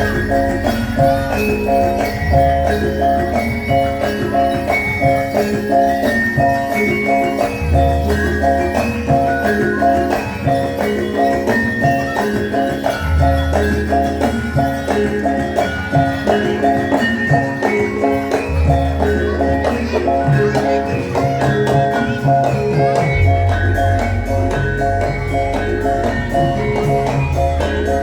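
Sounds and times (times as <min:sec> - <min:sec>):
jingling bells: 0:00.0 - 0:28.0
metal mallet percussion pattern: 0:00.0 - 0:28.0.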